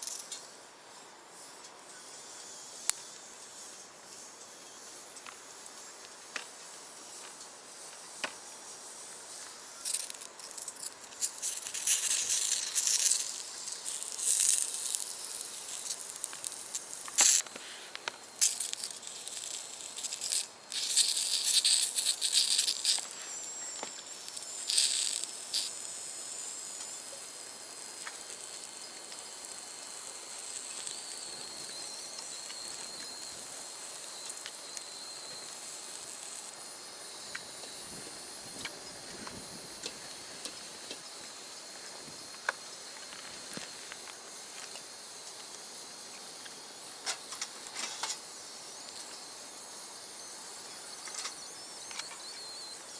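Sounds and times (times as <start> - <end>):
food sizzling in a skillet: 1.4 - 52.9
sharp crackles: 4.9 - 52.9.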